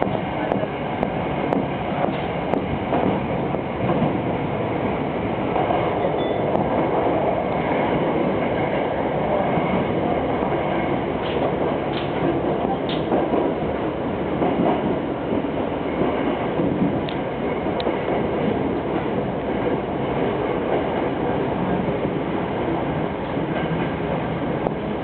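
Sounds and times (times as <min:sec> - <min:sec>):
subway train wheels rumbling: 0:00.0 - 0:25.0.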